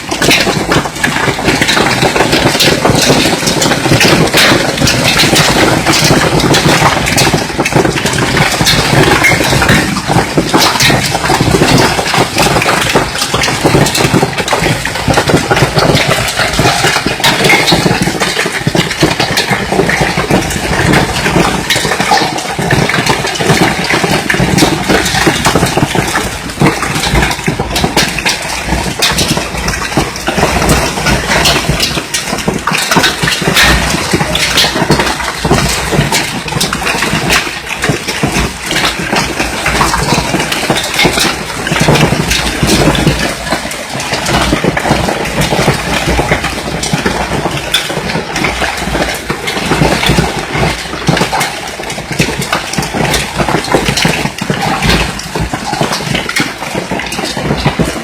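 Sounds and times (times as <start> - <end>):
hailstones pelting: 0.0 - 58.0
heavy rain: 0.0 - 58.0.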